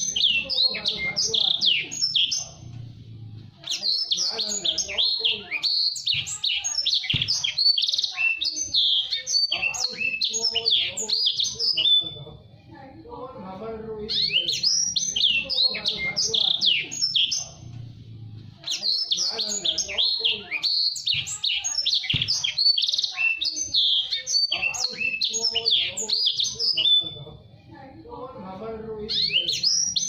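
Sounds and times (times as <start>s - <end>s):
songbird singing chirps and trills: 0.0s - 30.0s.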